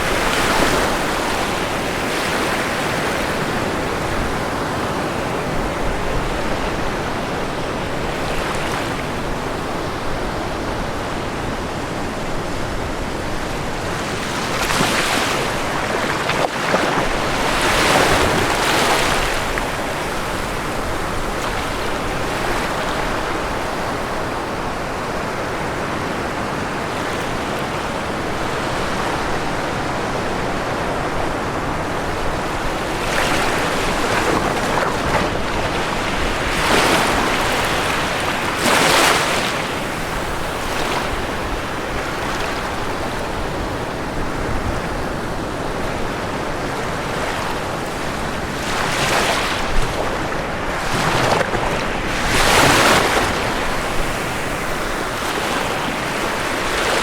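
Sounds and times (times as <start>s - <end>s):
ocean waves crashing: 0.0s - 57.0s
steady surf: 0.0s - 57.0s.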